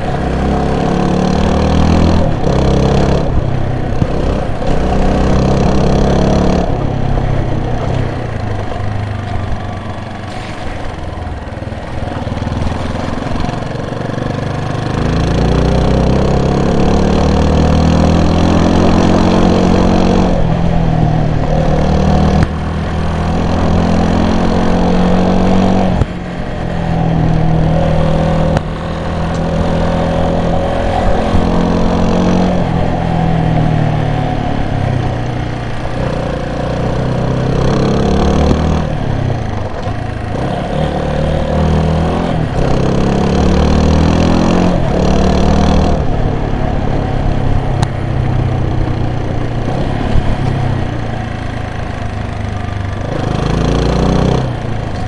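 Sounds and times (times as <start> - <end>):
vehicle engine accelerating: 0.0 - 55.0.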